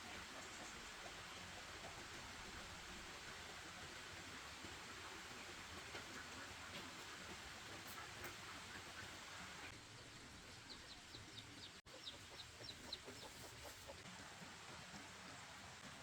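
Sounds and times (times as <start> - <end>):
chickens clucking faintly: 0.0 - 16.0.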